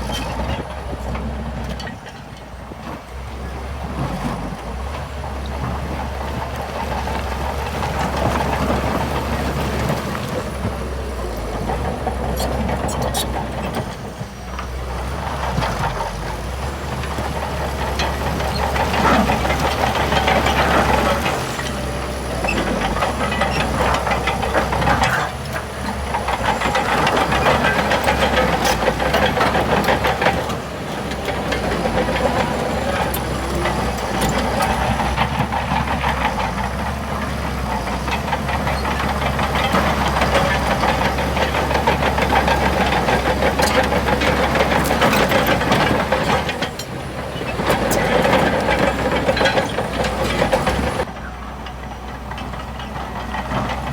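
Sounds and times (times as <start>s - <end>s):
bulldozer diesel engine rumbling: 0.0s - 53.9s
steel tracks clanking: 0.0s - 53.9s.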